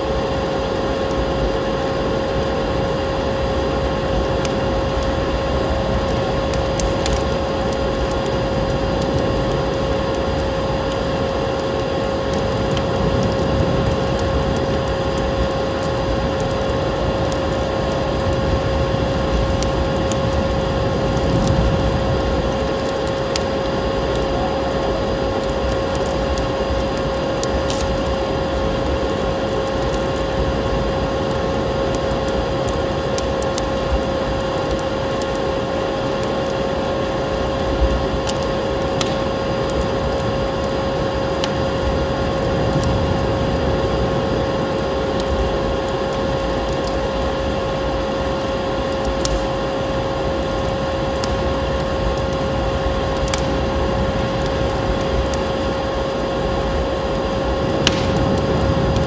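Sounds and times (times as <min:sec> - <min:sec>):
constant pitched hum: 0:00.0 - 0:59.0
wood fire crackling and popping: 0:00.0 - 0:59.0.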